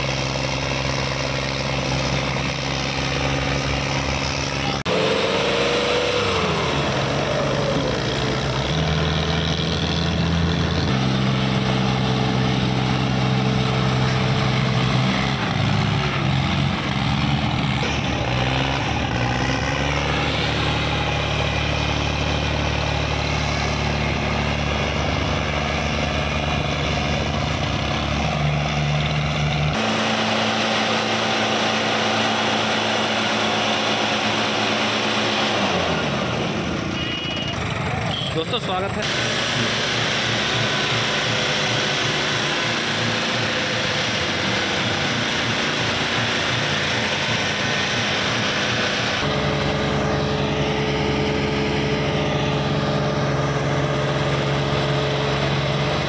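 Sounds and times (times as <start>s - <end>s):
diesel tractor engines labouring: 0.0s - 56.0s.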